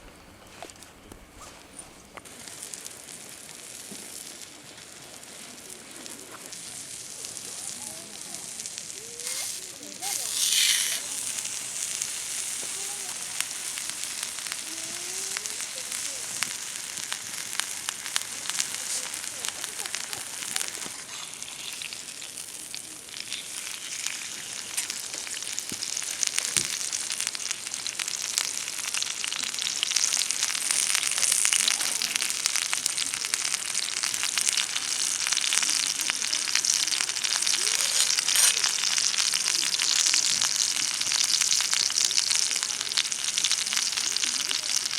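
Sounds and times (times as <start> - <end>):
food sizzling in a pan: 2.2 - 44.9.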